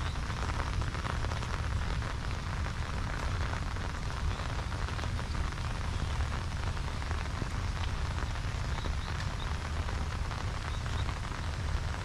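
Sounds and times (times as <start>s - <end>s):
constant low rumble: 0.0s - 12.0s
heavy rain falling: 0.0s - 12.0s.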